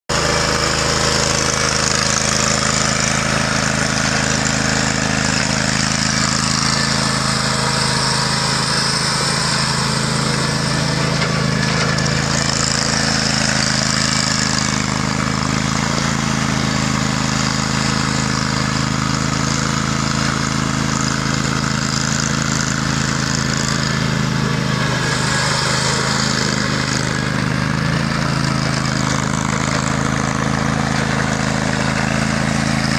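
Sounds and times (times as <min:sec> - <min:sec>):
mower engine running: 0:00.1 - 0:32.9.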